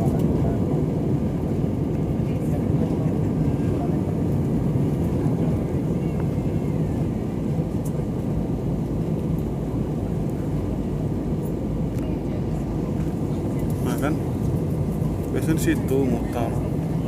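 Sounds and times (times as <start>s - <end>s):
airliner cabin engine and airflow noise: 0.0s - 17.0s.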